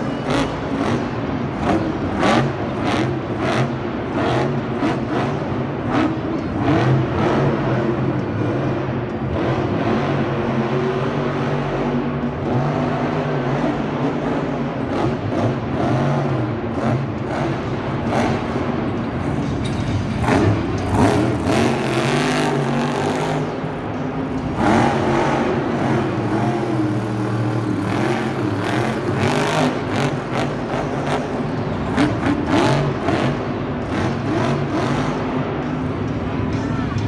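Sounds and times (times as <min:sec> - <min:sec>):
engine revving: 0:00.0 - 0:35.9.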